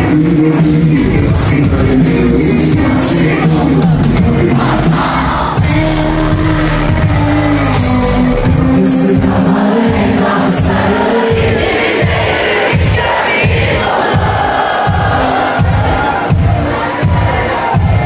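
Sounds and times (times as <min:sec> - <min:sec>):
audience in hall: 0:00.0 - 0:18.0
person singing: 0:00.0 - 0:18.0
rock band playing: 0:00.0 - 0:18.0.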